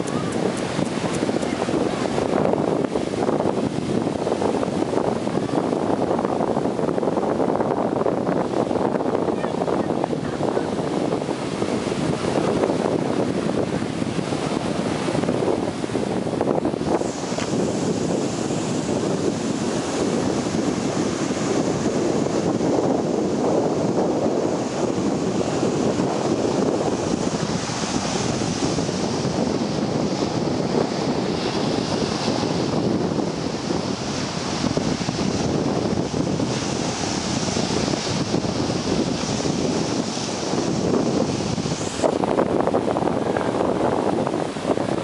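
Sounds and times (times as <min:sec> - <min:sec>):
ocean surf breaking on beach: 0:00.0 - 0:45.0
wind buffeting microphone: 0:00.0 - 0:45.0.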